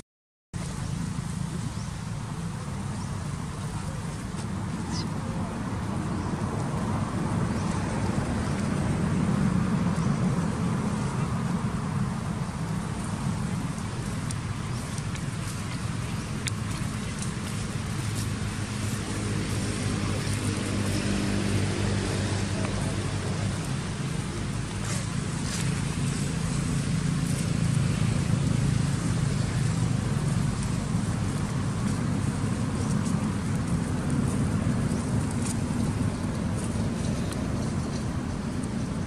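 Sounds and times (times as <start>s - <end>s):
vehicle engine humming: 0.6s - 39.0s.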